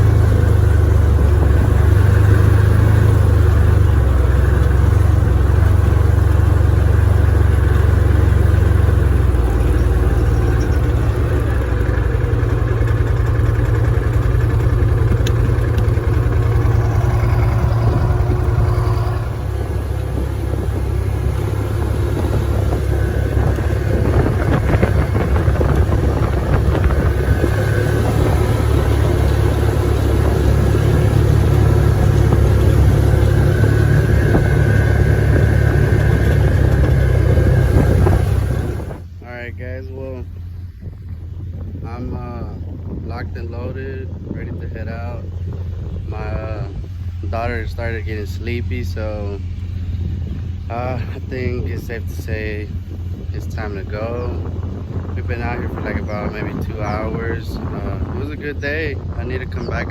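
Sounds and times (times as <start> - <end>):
utility vehicle engine running: 0.0 - 59.9.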